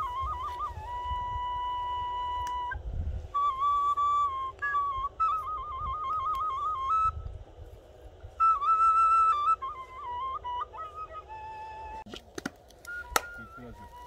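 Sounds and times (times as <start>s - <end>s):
wooden flute melody: 0.0s - 14.0s.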